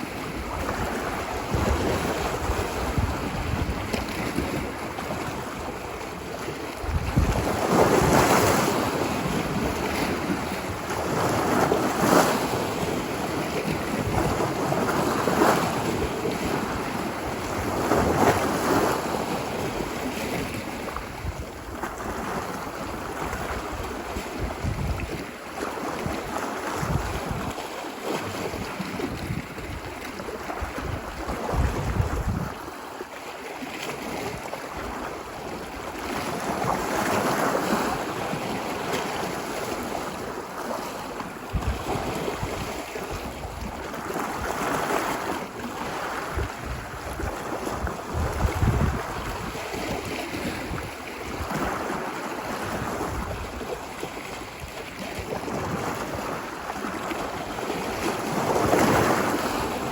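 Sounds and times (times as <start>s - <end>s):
wind buffeting microphone: 0.0s - 27.6s, 28.4s - 32.7s, 41.5s - 59.9s
ocean waves washing ashore: 0.0s - 59.9s.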